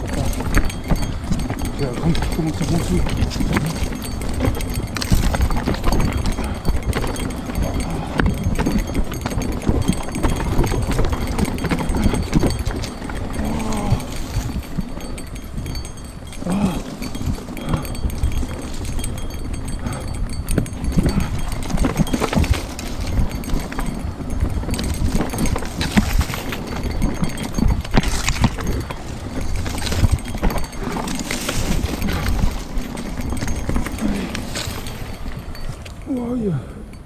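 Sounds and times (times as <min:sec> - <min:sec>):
tyres crunching over stones: 0:00.0 - 0:36.4
bike rattling and knocking: 0:00.0 - 0:37.0
wind rumble on microphone: 0:00.0 - 0:37.0.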